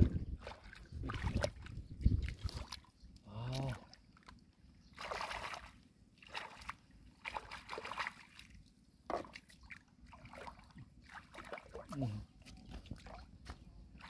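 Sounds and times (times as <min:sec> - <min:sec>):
muddy water sloshing and splashing: 0:00.0 - 0:14.0.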